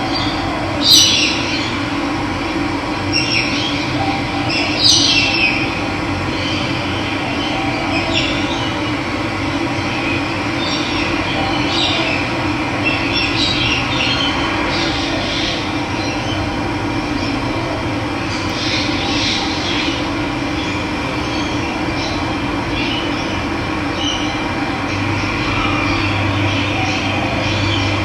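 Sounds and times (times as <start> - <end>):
birds chirping: 0.0 - 2.1, 3.0 - 28.0.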